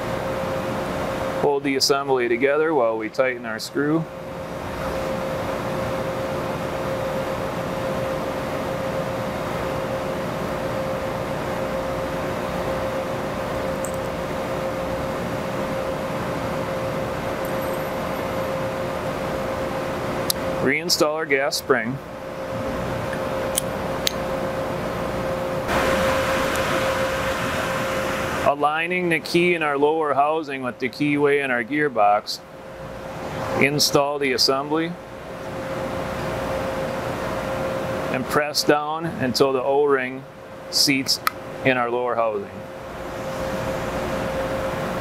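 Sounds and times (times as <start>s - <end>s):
fan-like room noise: 0.0s - 45.0s
mid-pitched hum: 0.0s - 45.0s.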